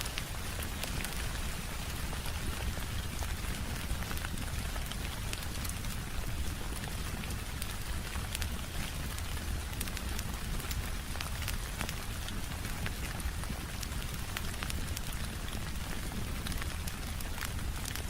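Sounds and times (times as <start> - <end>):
steady rain: 0.0 - 18.0
fireplace crackling: 0.1 - 18.0.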